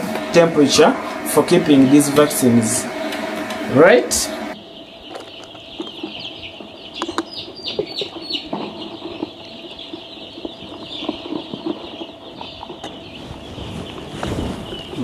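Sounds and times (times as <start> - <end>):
chicks peeping: 0.1 - 15.0.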